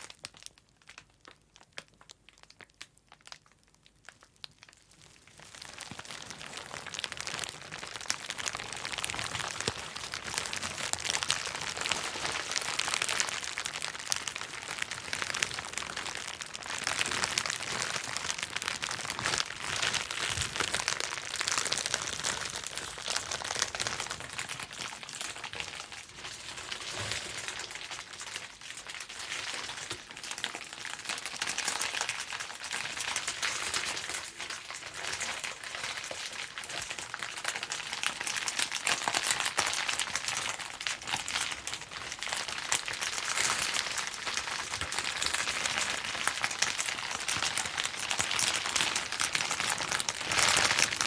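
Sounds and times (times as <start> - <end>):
bubble wrap popping: 0.0 - 51.0
plastic crinkling: 0.0 - 51.0.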